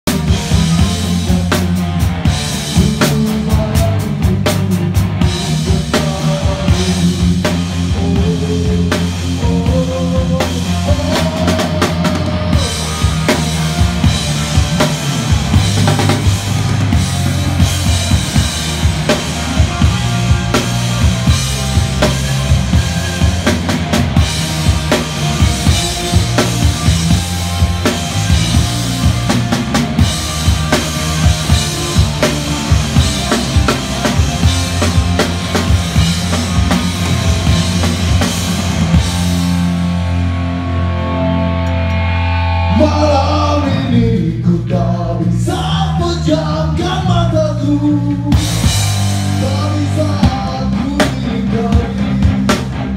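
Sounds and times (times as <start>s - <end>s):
drum kit beat: 0.0s - 40.6s, 45.3s - 52.9s
rock band playing live: 0.0s - 52.9s.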